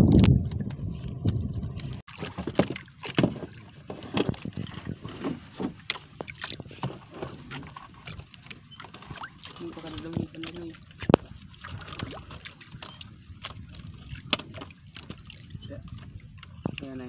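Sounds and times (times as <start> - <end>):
wind rumble on microphone: 0.0 - 8.3, 9.7 - 17.0
water lapping against boat hull: 0.0 - 17.0.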